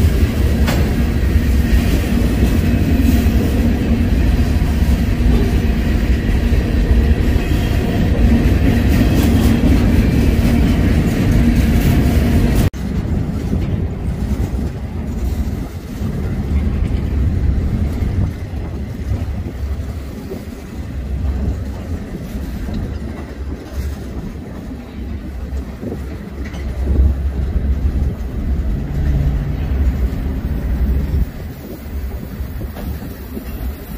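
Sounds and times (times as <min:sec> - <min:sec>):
freight train rumbling and clacking: 0:00.0 - 0:33.9.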